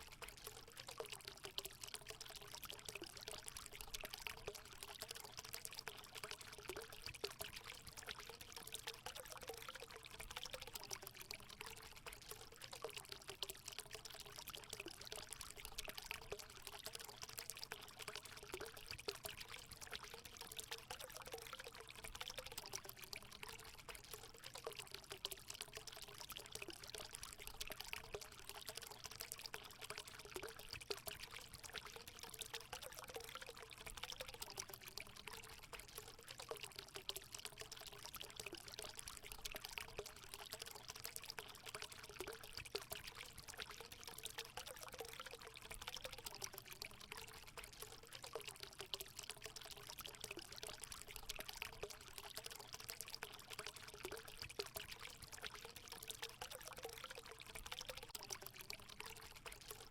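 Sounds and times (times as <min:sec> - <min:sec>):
water pouring and splashing: 0:00.0 - 0:59.9.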